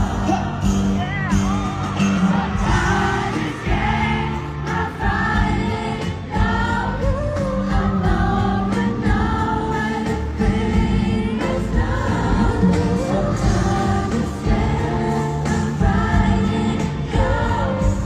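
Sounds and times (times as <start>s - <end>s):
pop ballad over sound system: 0.0s - 18.0s.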